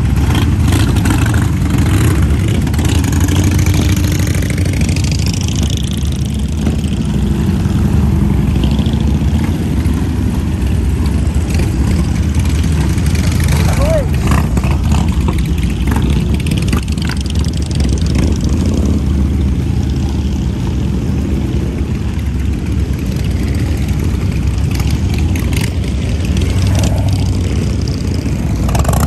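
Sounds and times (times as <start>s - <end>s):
motorcycle engines droning: 0.0s - 29.0s.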